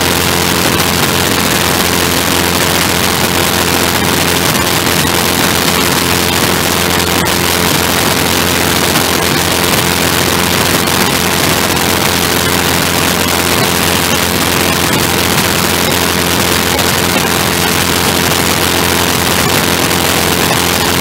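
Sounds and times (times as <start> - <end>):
small craft engine running: 0.0 - 21.0.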